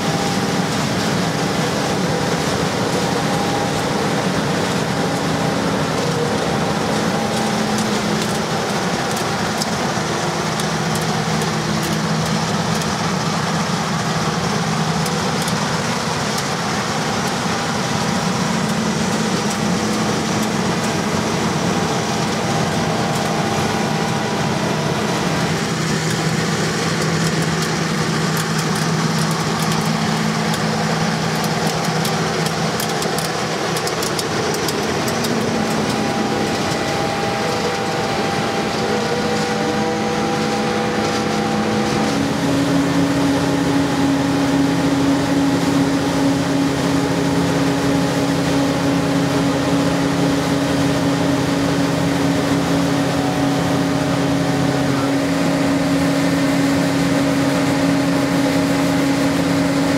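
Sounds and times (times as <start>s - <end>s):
combine harvester engine hum: 0.0s - 59.9s
machine noise: 0.0s - 59.9s.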